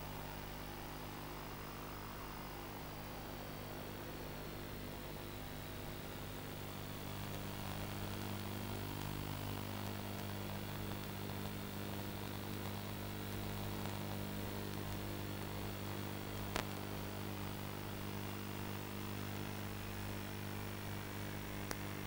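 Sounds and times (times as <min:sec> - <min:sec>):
electrical hum with static hiss: 0:00.0 - 0:22.0.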